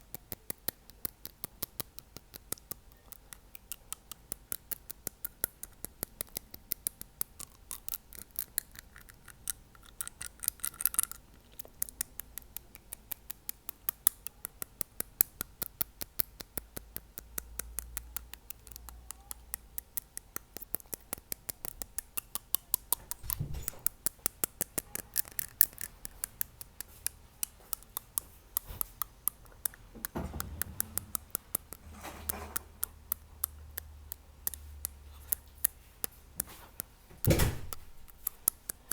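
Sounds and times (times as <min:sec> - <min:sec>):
fingernail tapping on teeth: 0:00.0 - 0:36.9.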